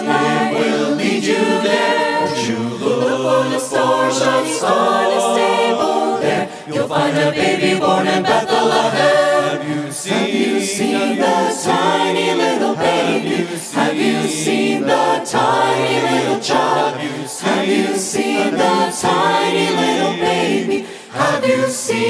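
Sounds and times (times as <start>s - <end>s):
a cappella vocal ensemble singing: 0.0s - 22.0s.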